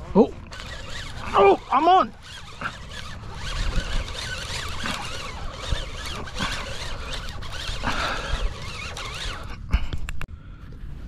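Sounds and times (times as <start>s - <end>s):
fishing reel whirring: 0.0s - 9.7s
wind on microphone: 0.0s - 11.0s.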